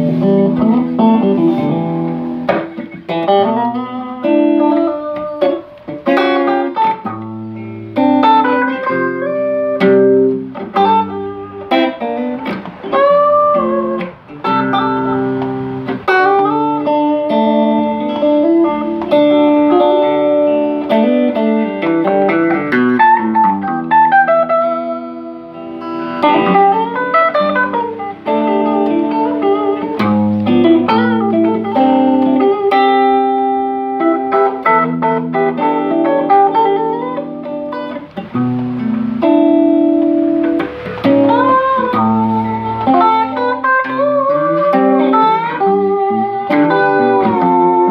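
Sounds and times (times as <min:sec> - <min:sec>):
electric guitar picking: 0:00.0 - 0:47.9
guitar bending notes: 0:00.0 - 0:47.9.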